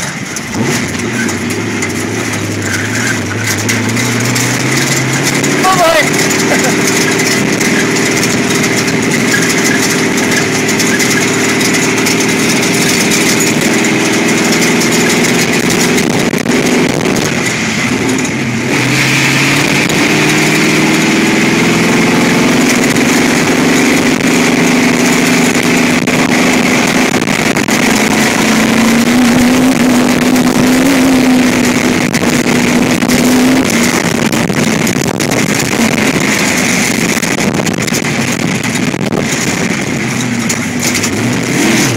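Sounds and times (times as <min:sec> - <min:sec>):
dune buggy engine revving: 0:00.0 - 0:41.9
wind and tyre noise: 0:00.0 - 0:41.9.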